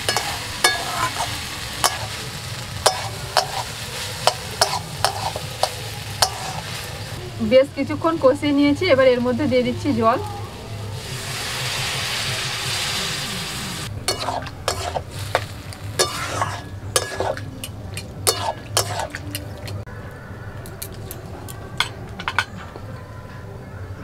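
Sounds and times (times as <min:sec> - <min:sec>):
water sizzling in hot wok: 0:00.0 - 0:19.2
spatula scraping wok: 0:00.0 - 0:19.3.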